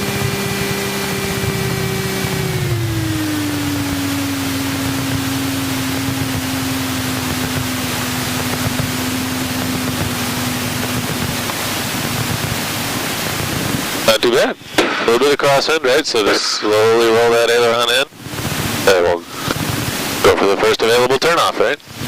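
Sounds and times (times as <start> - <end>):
rushing airflow: 0.0 - 20.5
plane engine droning: 0.0 - 20.8.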